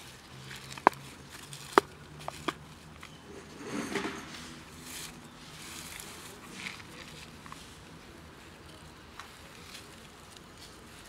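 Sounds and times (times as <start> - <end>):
dry leaves rustling: 0.0 - 11.0.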